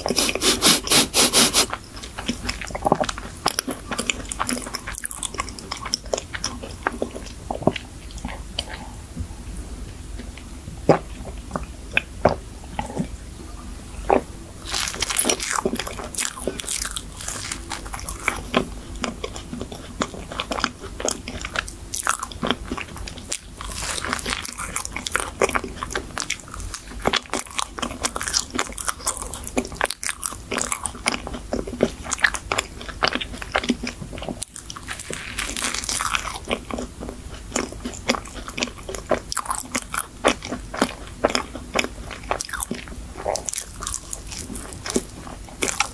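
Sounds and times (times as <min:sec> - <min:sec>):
chewing and crunching pastry: 0:00.0 - 0:09.2, 0:09.9 - 0:45.9.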